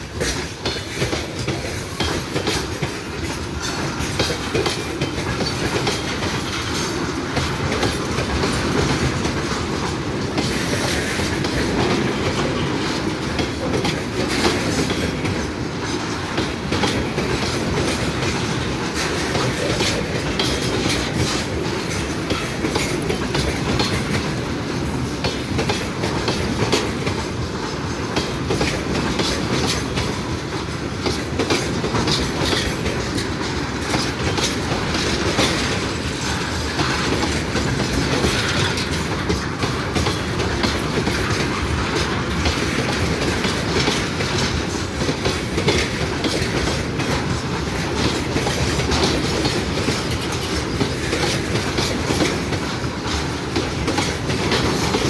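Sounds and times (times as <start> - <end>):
rumble of train wagons: 0.0 - 55.0
wheels clacking over rail joints: 0.0 - 55.0.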